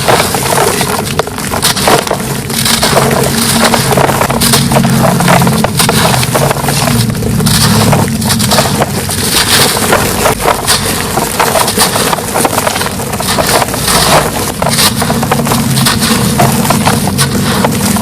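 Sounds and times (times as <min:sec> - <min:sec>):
concrete crunching and crackling: 0:00.0 - 0:18.0
low steady hum: 0:00.0 - 0:18.0.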